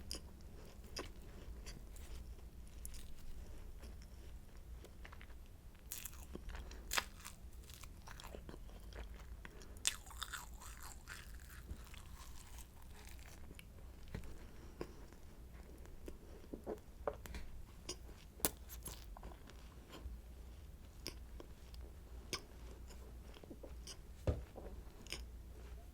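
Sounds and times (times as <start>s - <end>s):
soft chewing: 0.0s - 25.9s
crunching flaky pastry: 0.1s - 15.8s, 17.9s - 24.0s.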